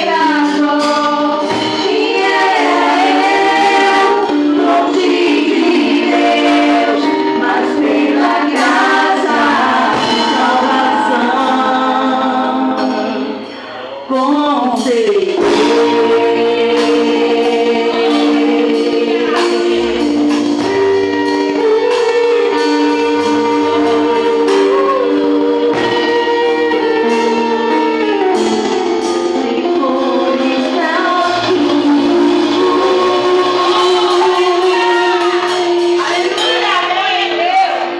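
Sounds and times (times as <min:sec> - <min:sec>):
group singing gospel song: 0:00.0 - 0:37.9
instrumental accompaniment: 0:00.0 - 0:37.9.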